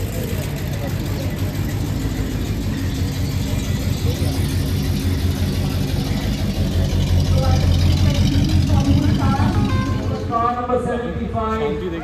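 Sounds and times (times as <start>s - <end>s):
car engine running at low revs: 0.0s - 11.2s.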